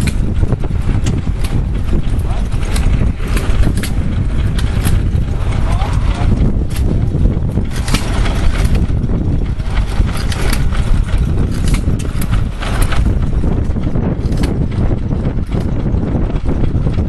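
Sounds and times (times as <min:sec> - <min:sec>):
old gas engines running: 0:00.0 - 0:17.0.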